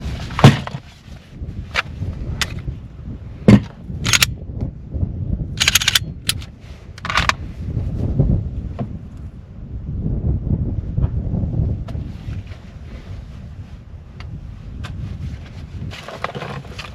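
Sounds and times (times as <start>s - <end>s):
wind rumble on microphone: 0.0s - 16.9s.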